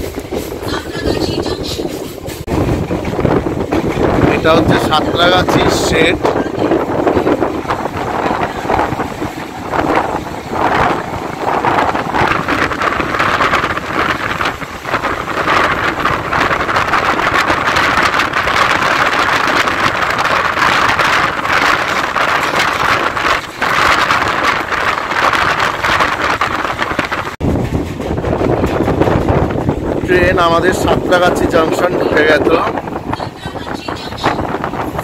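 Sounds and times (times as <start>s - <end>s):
train wheels rumbling on rails: 0.0s - 35.0s
wind buffeting microphone: 0.0s - 35.0s.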